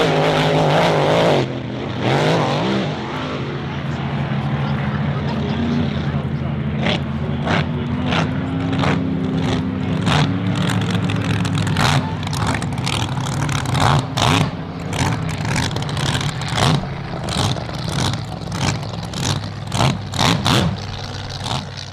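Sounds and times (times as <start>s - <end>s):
race boat engine running: 0.0s - 21.9s.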